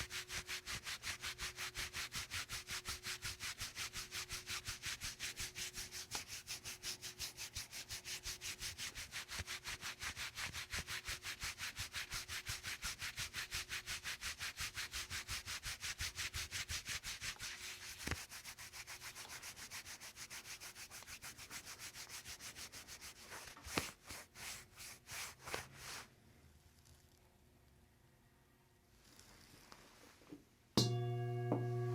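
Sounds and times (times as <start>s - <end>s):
fast rubbing strokes: 0.0s - 26.1s.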